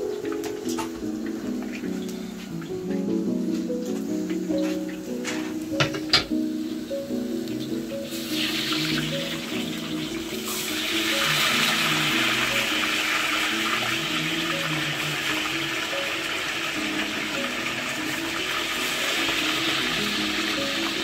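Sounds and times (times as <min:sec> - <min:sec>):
background music: 0:00.0 - 0:21.0
hot oil sizzling: 0:00.0 - 0:21.0.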